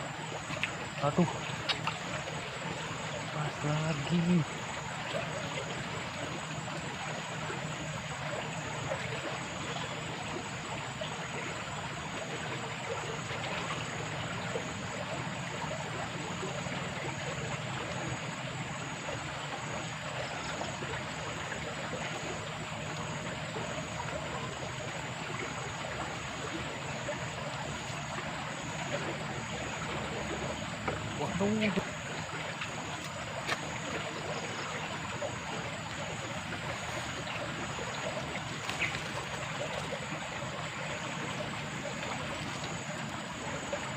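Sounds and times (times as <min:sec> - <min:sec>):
flowing water rushing: 0:00.0 - 0:43.9.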